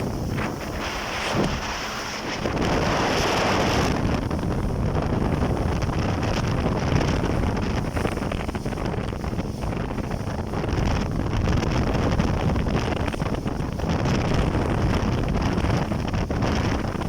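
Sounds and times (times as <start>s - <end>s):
boat motor: 0.0s - 17.0s
rushing water: 0.0s - 17.0s
wind buffeting microphone: 0.0s - 17.0s.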